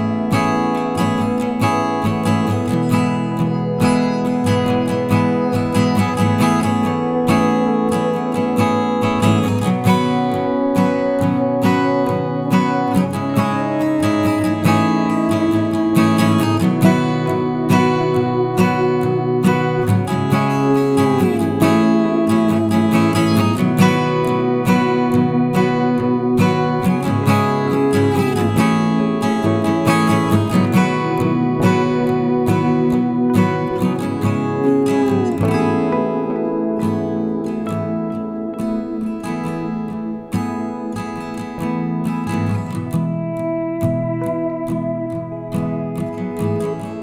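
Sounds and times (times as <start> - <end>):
acoustic guitar plucked and strummed: 0.0 - 47.0.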